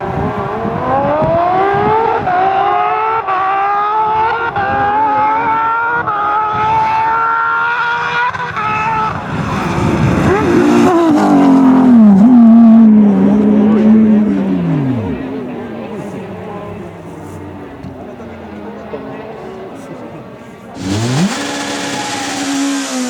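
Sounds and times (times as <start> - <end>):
lower engine note falling: 0.0 - 23.0
rally car engine accelerating: 0.0 - 23.0.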